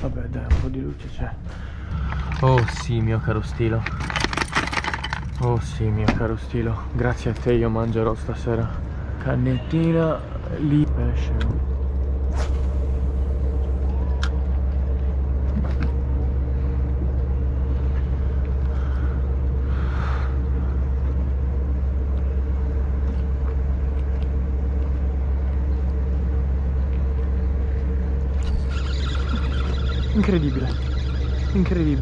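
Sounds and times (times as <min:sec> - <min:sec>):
low motor hum: 0:00.0 - 0:32.0.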